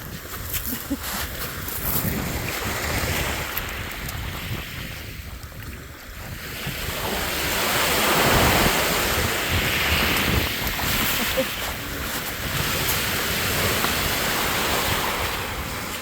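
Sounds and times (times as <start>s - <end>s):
waves washing onto sand beach: 0.0s - 16.0s
wind rumbling on microphone: 0.0s - 16.0s.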